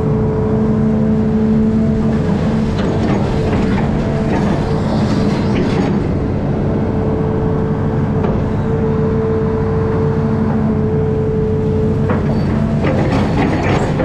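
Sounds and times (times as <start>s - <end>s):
diesel engine running: 0.0s - 14.0s
engine whine: 0.0s - 14.0s.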